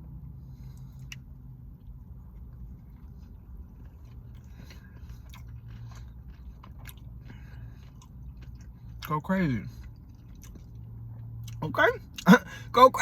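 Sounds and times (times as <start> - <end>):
steady low hum: 0.0 - 13.0
person chewing food: 0.2 - 12.7.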